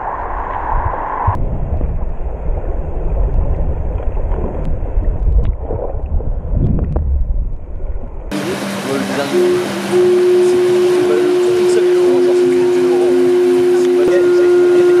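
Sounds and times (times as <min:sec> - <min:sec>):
muffled underwater water rumble: 0:00.0 - 0:15.0.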